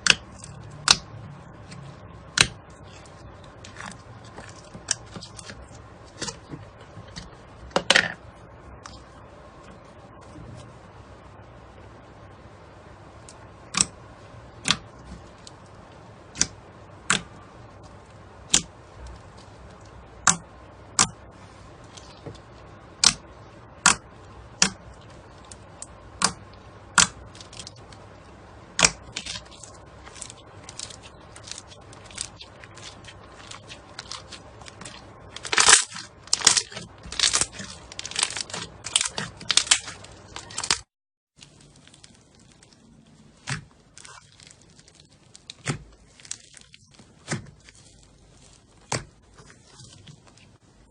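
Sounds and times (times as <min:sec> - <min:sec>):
slime clicking and crackling: 0:00.0 - 0:07.3, 0:13.2 - 0:21.2, 0:22.9 - 0:50.6.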